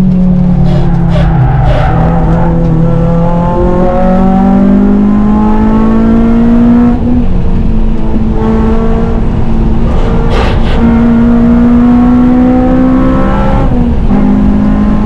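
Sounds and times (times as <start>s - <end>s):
road and wind noise: 0.0s - 15.0s
car engine revving hard: 0.7s - 7.0s, 8.3s - 15.0s.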